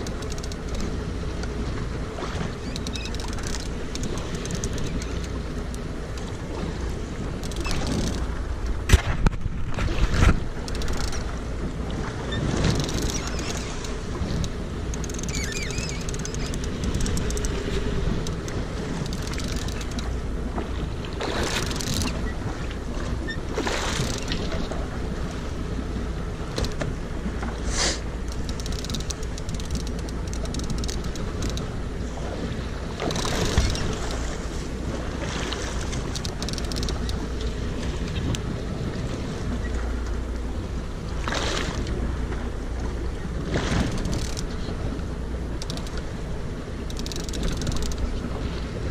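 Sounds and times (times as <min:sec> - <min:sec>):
water washing along a boat: 0:00.0 - 0:48.9
wind on the microphone: 0:00.0 - 0:48.9.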